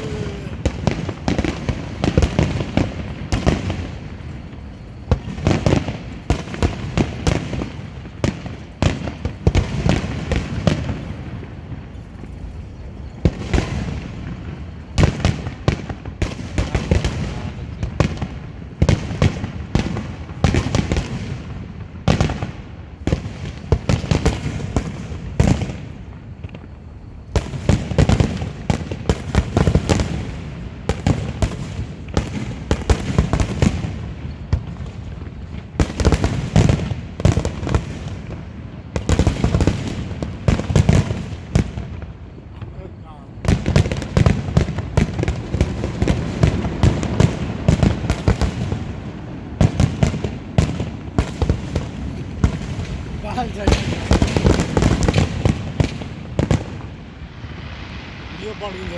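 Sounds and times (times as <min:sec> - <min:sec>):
fireworks bangs and crackles: 0:00.0 - 0:58.9
fireworks rumble: 0:00.0 - 0:58.9.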